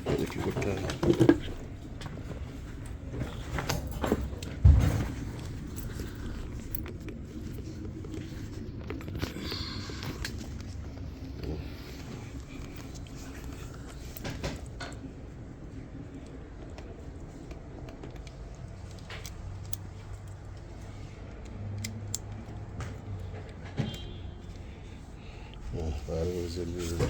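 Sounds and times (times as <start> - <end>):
parts clicking and knocking: 0.0 - 25.6
steady low hum: 0.0 - 27.0.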